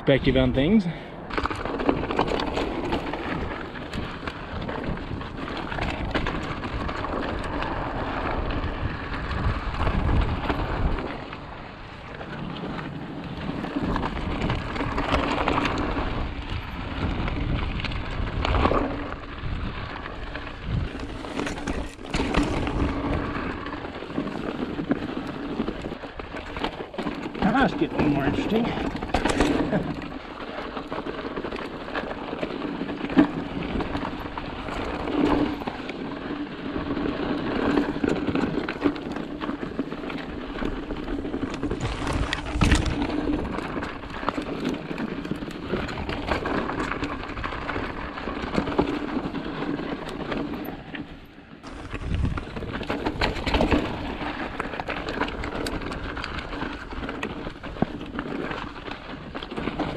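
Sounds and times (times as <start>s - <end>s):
bike rattling: 0.0s - 59.9s
tyres crunching on rocky trail: 0.3s - 59.9s.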